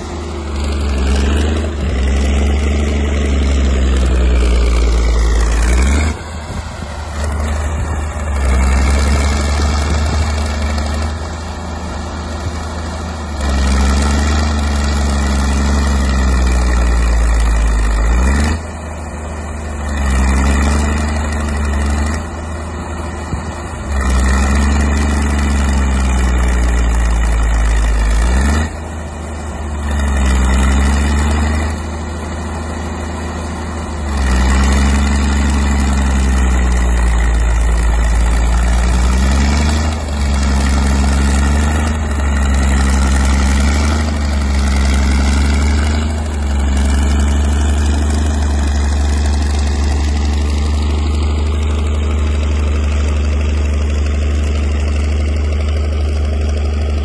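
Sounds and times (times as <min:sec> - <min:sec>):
dozer engine under load: 0:00.0 - 0:57.0.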